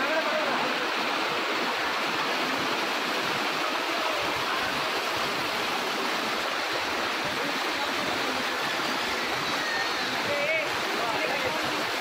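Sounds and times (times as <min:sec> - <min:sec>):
waterfall over rocks: 0:00.0 - 0:12.0.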